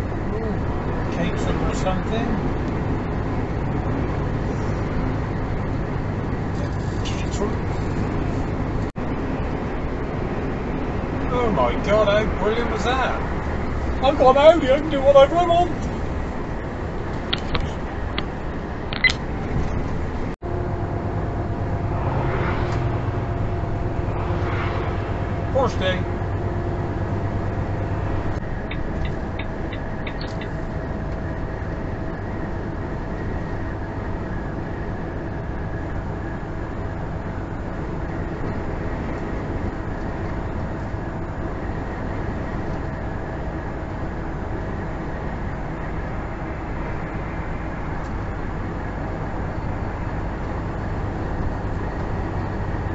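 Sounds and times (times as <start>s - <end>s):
engine and road noise in cab: 0.0s - 52.9s.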